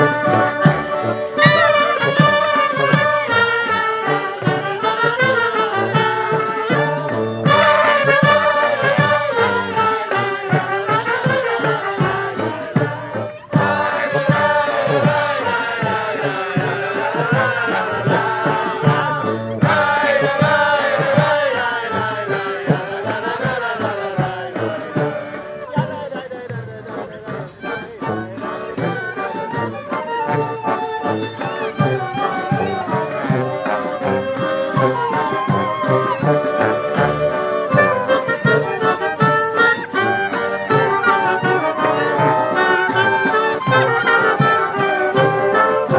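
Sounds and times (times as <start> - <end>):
klezmer band playing: 0.0 - 45.9
regular drum beat: 0.0 - 45.9.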